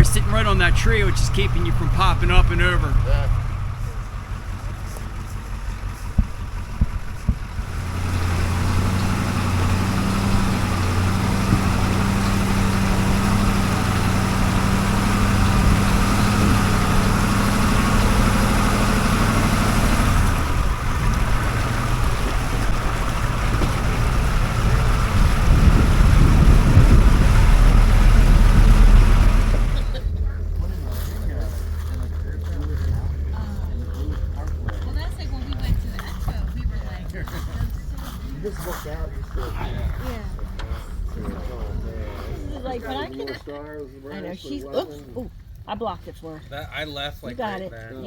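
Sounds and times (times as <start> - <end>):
off-road vehicle engine under load: 0.0 - 47.8.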